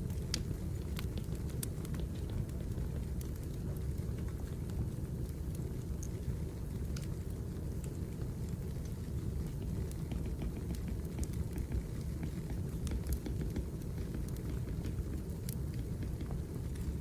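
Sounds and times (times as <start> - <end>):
fire flames rumbling: 0.0 - 17.0
logs crackling and popping: 0.0 - 17.0.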